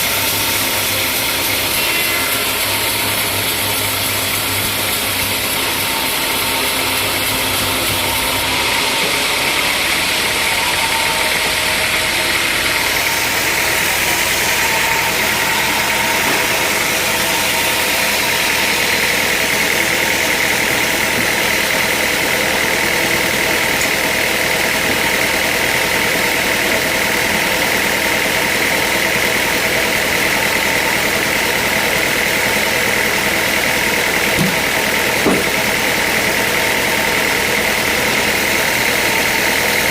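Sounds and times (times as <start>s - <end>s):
high machine whine: 0.0s - 39.9s
sawmill machinery running: 0.0s - 39.9s.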